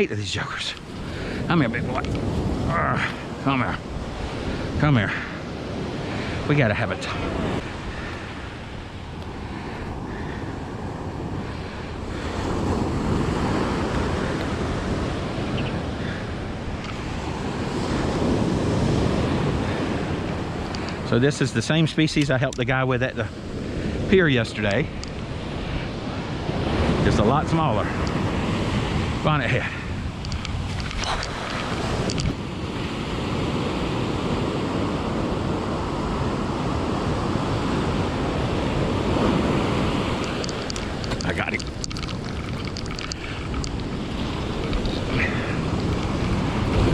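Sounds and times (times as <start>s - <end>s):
ocean surf washing onto beach: 0.0s - 46.9s
wind buffeting microphone: 0.0s - 46.9s.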